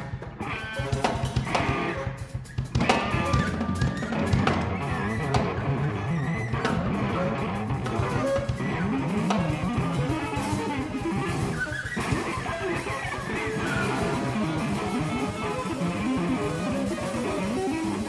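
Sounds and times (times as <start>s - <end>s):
drum kit: 0.0s - 18.0s
electric guitar: 0.0s - 18.0s
saxophone: 0.0s - 18.0s.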